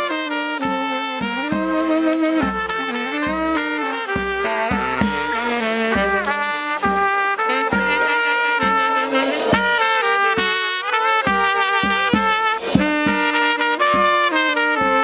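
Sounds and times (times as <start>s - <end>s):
drum and cymbal beat: 0.0s - 15.0s
trumpet and saxophone melody: 0.0s - 15.0s.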